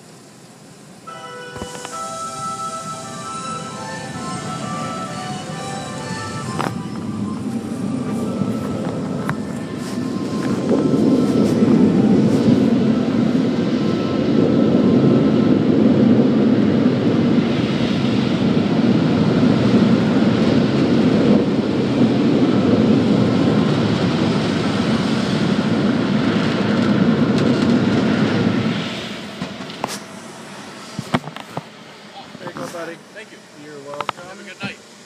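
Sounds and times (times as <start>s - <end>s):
car wash water and machinery: 0.0s - 35.0s.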